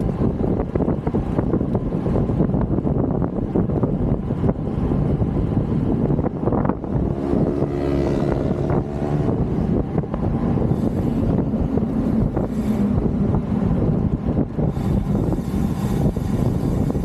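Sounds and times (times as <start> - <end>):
steady pitched hum: 0.0 - 17.0
wind rushing over microphone: 0.0 - 17.0.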